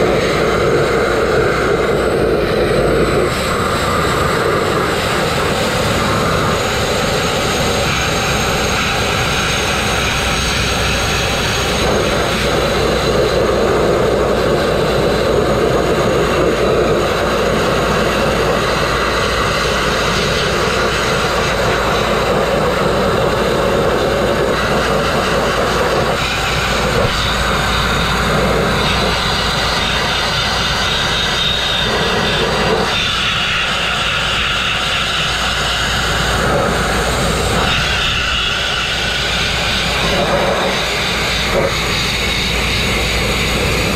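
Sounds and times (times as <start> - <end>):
grit blasting air rush: 0.0 - 43.9.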